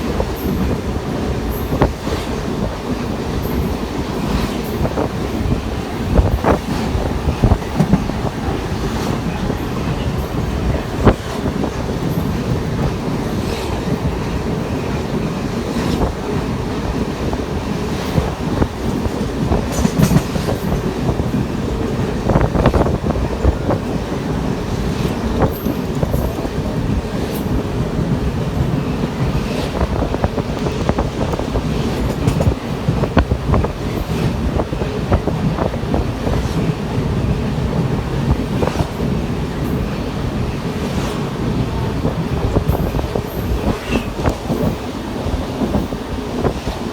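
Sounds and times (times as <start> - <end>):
train rumbling at speed: 0.0 - 46.9
wheels clacking over rail joints: 0.0 - 46.9.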